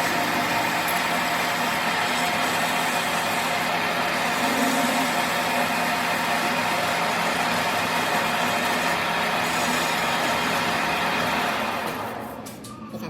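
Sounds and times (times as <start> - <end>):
machine running steadily: 0.0 - 12.8.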